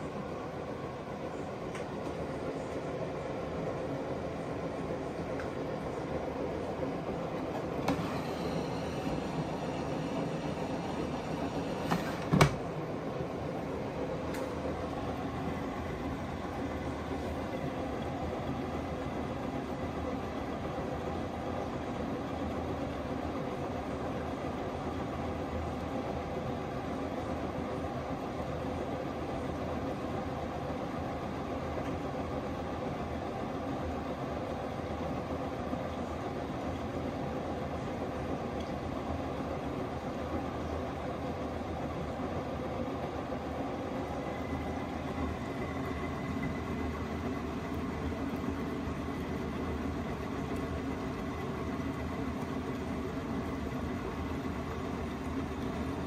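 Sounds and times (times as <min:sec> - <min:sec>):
washing machine hum and churn: 0:00.0 - 0:56.0.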